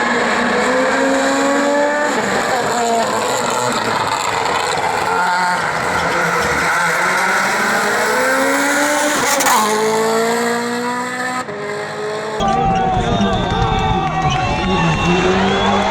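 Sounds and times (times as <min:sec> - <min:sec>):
rally car engine at full throttle: 0:00.0 - 0:15.9.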